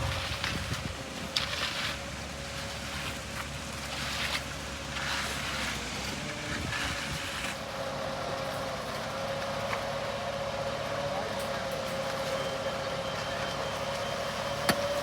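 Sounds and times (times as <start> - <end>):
concrete mixer truck whining: 0.0 - 15.0.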